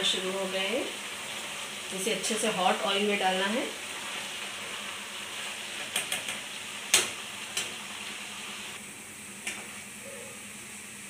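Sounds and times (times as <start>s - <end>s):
potato shreds sizzling in oil: 0.0s - 11.0s.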